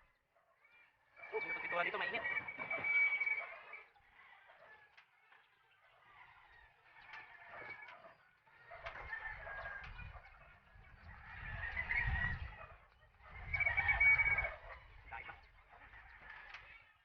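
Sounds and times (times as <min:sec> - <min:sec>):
chickens clucking: 0:01.2 - 0:16.9.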